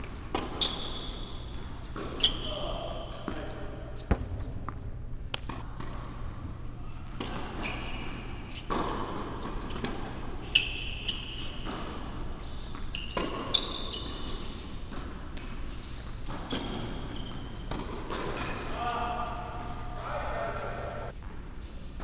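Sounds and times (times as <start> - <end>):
shoes squeaking on hard court: 0.0 - 4.8, 5.5 - 18.7
low hum of indoor hall: 0.0 - 22.0.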